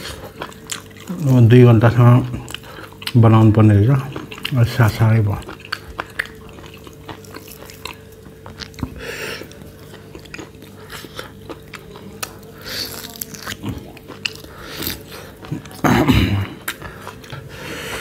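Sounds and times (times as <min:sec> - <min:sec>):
chewing and biting meat: 0:00.0 - 0:18.0.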